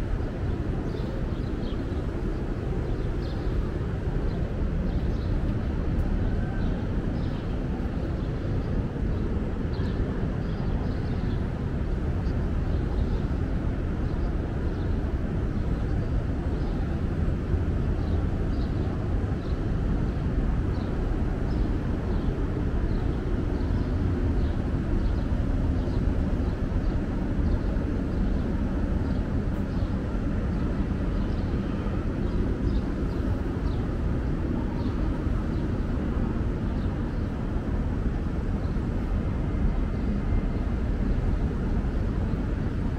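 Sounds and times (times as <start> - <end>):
low city rumble: 0.0 - 42.9.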